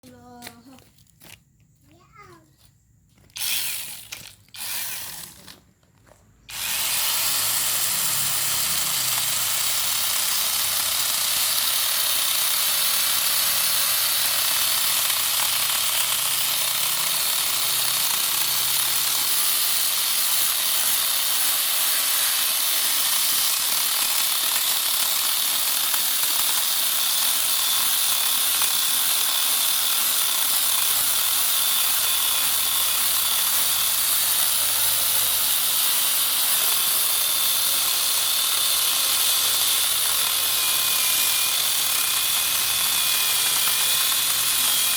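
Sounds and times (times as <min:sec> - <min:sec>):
angle grinder cutting wood: 0:03.2 - 0:05.7, 0:06.4 - 0:44.9.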